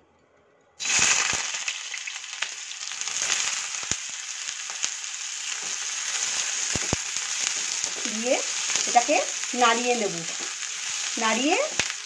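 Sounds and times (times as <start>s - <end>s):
onions sizzling in hot oil: 0.8s - 12.0s.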